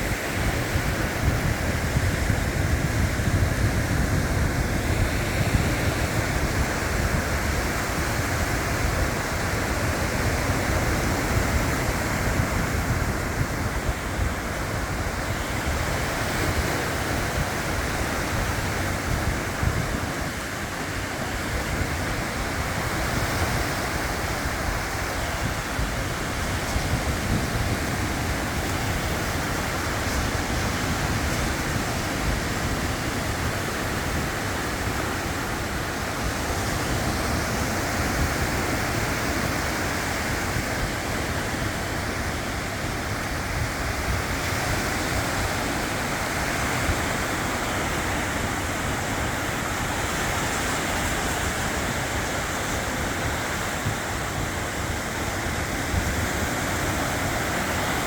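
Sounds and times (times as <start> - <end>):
sea surf: 0.0 - 58.0
wind buffeting microphone: 0.0 - 58.0.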